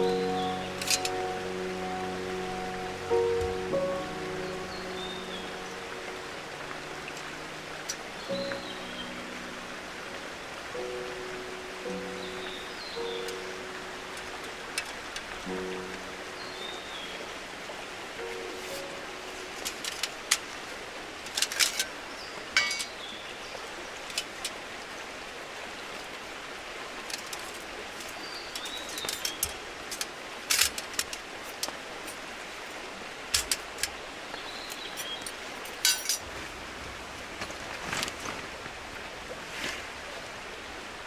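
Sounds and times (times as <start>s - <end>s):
campfire wood crackling: 0.0s - 23.1s, 25.9s - 41.0s
rain hiss: 0.0s - 41.0s.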